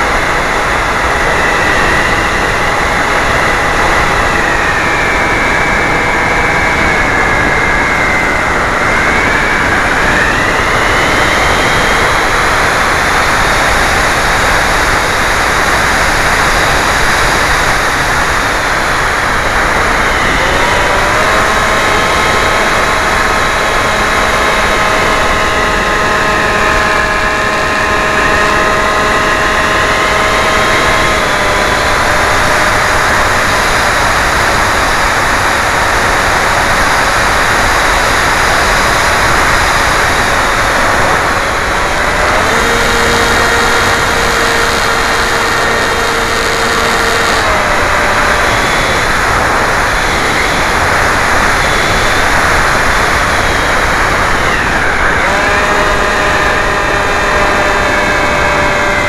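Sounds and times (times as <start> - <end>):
high motor whine: 0.0 - 59.0.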